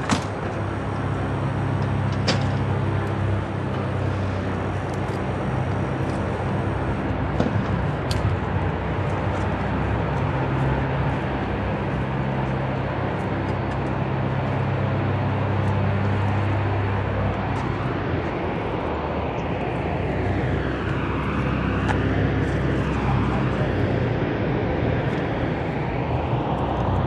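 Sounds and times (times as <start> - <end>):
aircraft engine droning: 0.0 - 27.0.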